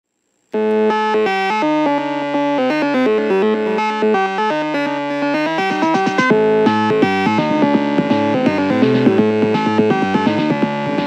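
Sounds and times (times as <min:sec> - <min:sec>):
plucked guitar-like part: 0:00.6 - 0:11.0
upbeat synthesizer tune: 0:00.6 - 0:11.0.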